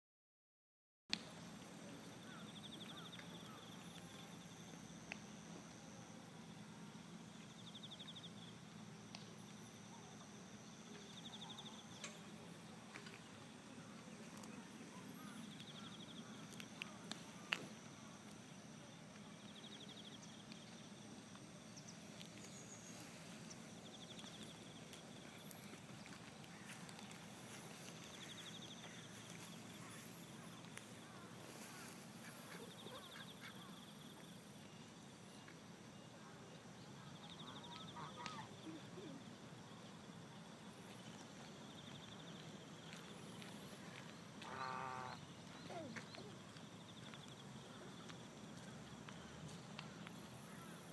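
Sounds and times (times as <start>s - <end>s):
lakeside ambience: 1.1s - 50.9s.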